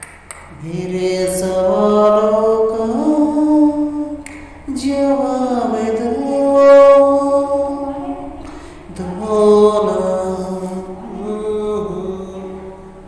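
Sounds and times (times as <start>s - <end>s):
person singing long notes: 0.5s - 13.0s.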